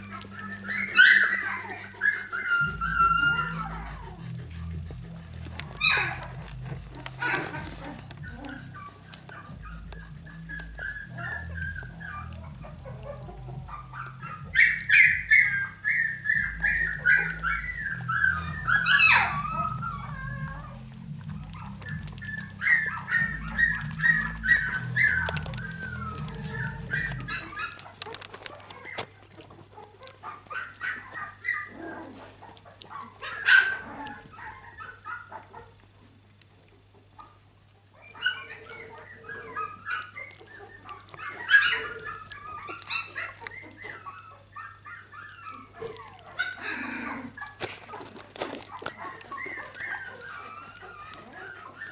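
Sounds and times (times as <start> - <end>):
puppies whining and squeaking: 0.0 - 51.9.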